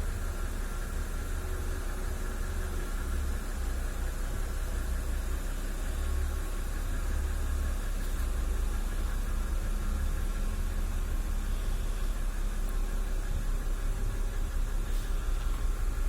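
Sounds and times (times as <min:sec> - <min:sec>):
car engine idling with knocking: 0:00.0 - 0:16.0.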